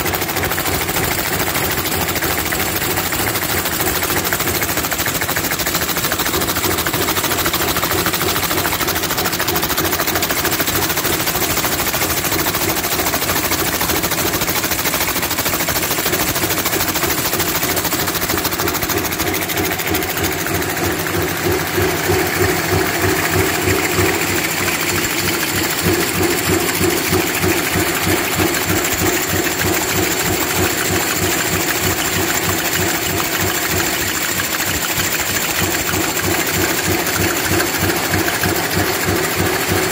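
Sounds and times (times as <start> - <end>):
production line metallic clatter: 0.0 - 39.9.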